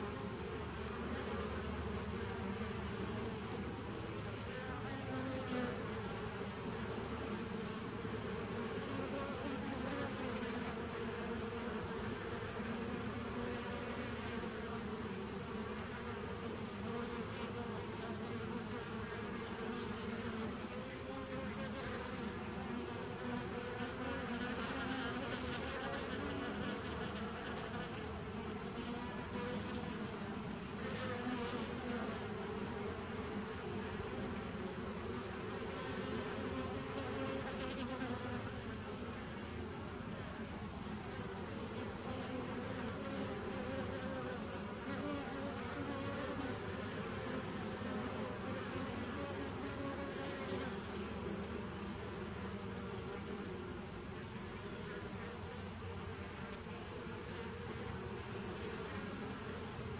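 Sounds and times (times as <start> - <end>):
bees buzzing: 0.0 - 59.9.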